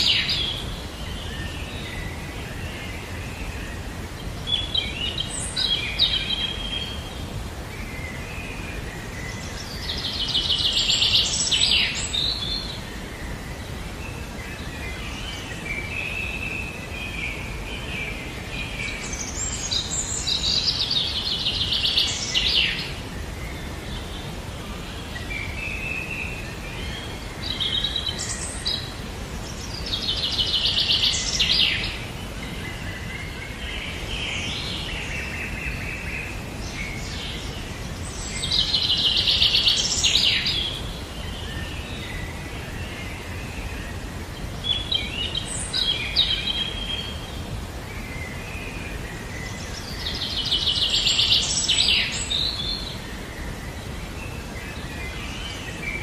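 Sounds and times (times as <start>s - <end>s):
noisy outdoor background: 0.0s - 56.0s.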